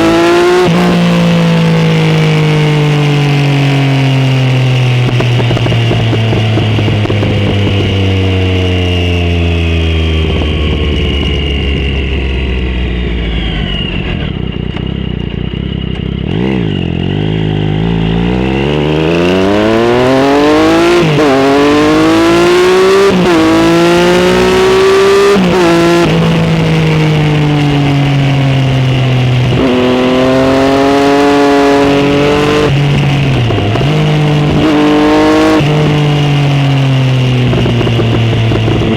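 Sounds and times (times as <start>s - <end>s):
motorcycle engine revving: 0.0s - 38.9s
wind noise: 3.5s - 15.4s, 17.5s - 38.9s.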